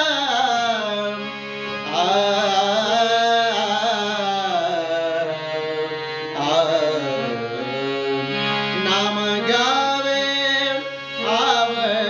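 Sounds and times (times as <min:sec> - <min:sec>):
devotional singing voice: 0:00.0 - 0:12.0.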